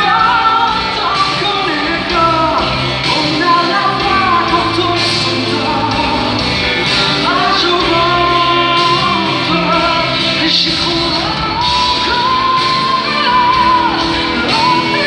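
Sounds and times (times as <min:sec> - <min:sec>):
full band playing: 0:00.0 - 0:15.0.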